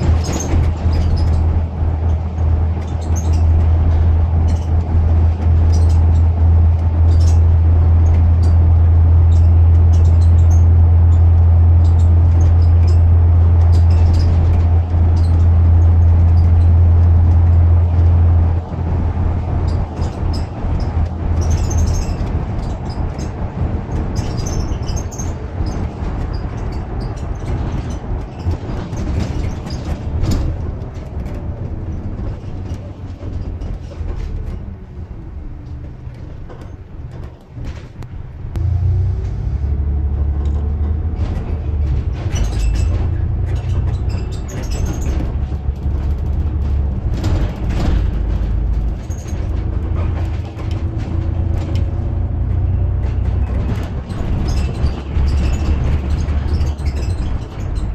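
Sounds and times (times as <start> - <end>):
bus engine drone: 0.0 - 57.9
road noise: 0.0 - 57.9.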